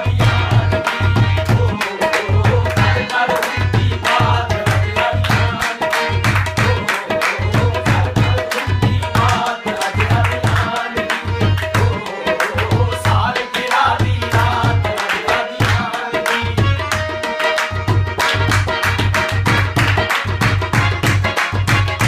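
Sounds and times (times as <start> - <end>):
harmonium reedy tones: 0.0 - 22.0
tabla beat: 0.0 - 22.0.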